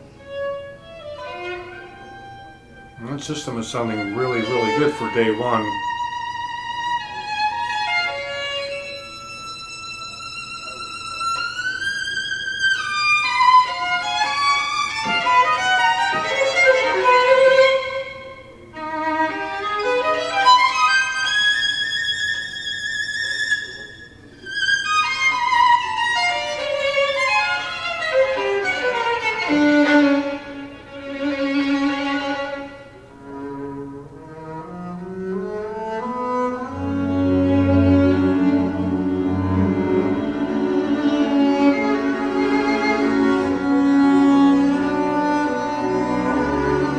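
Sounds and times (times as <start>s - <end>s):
violin music over loudspeakers: 0.0s - 46.9s.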